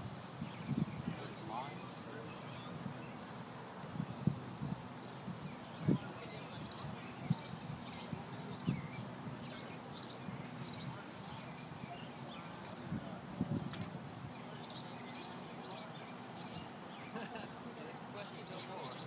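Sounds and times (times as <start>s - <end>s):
songbird chirping: 0.1s - 19.0s.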